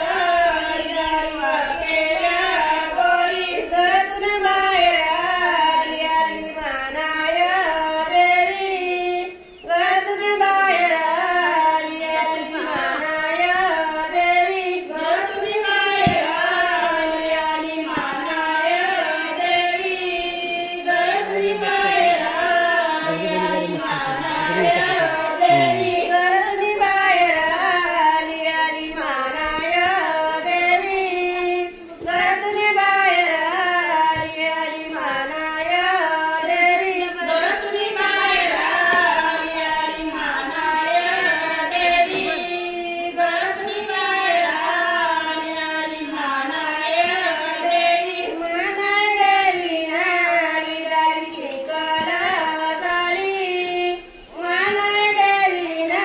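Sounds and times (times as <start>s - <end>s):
women singing: 0.0s - 56.0s.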